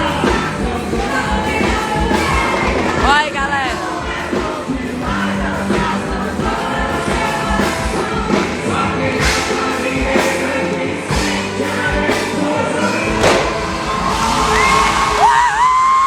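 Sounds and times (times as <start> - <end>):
choir-like backing voices: 0.0 - 16.0
music with sung vocals and beat: 0.0 - 16.0.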